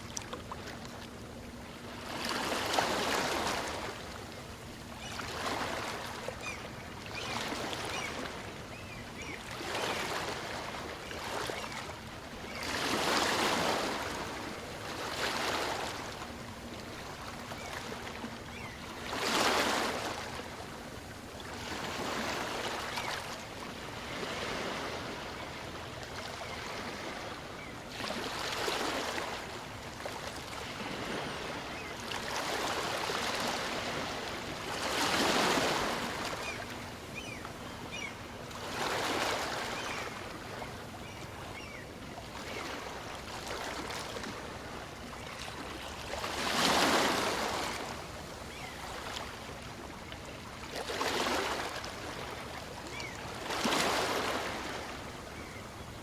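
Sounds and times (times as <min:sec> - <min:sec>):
small waves breaking on beach: 0:00.0 - 0:00.8, 0:01.8 - 0:04.1, 0:05.0 - 0:18.1, 0:21.4 - 0:56.0.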